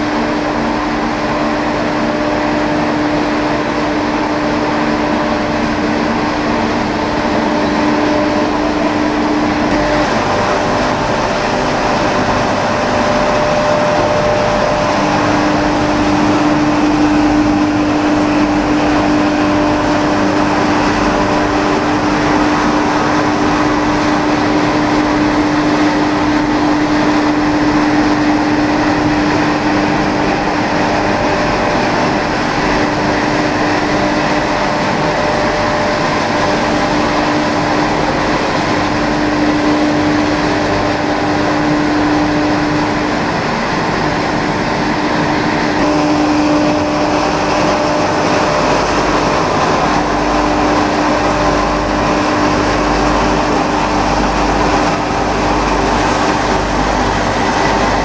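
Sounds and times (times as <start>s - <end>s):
deep rumble: 0.0s - 58.0s
drone of fans and motors: 0.0s - 58.0s.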